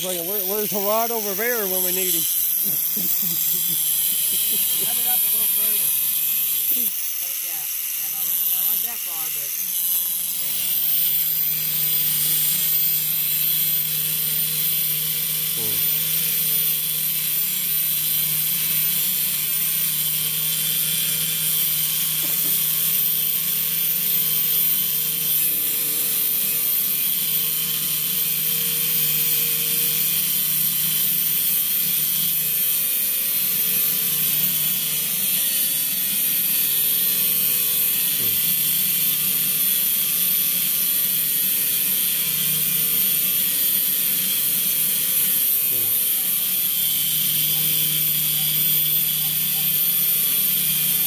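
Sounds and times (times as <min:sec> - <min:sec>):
electric cutting tool cutting metal: 0:00.0 - 0:51.0.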